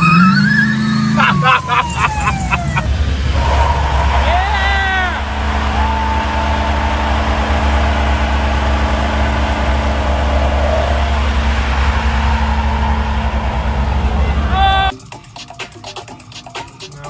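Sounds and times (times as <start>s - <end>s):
truck engine at high revs: 0.0s - 14.9s
tyres spinning on road: 0.0s - 17.0s.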